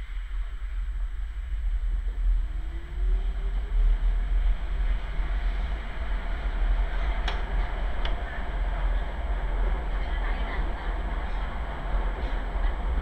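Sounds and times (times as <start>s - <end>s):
rising whine: 0.0s - 13.0s
tram rumbling on track: 0.0s - 13.0s.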